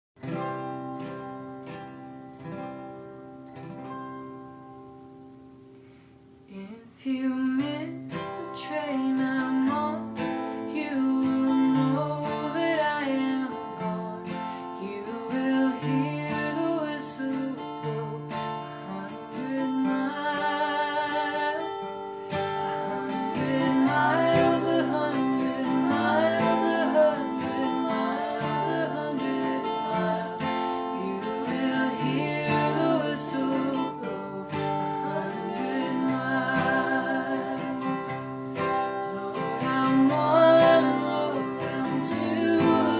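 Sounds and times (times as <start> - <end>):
acoustic guitar strummed: 0.2 - 6.4, 7.4 - 42.9.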